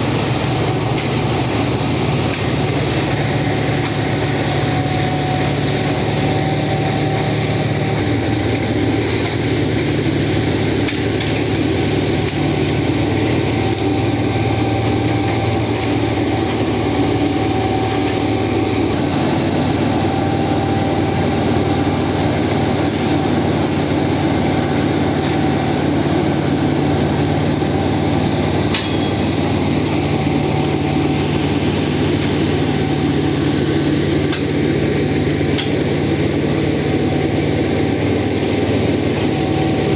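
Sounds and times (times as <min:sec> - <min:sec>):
constant mechanical whine: 0:00.0 - 0:39.9
diesel engine droning: 0:00.0 - 0:39.9.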